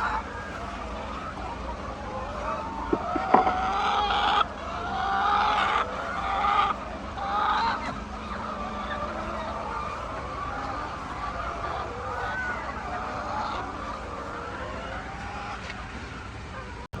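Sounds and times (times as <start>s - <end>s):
chickens calling: 0.0s - 17.0s.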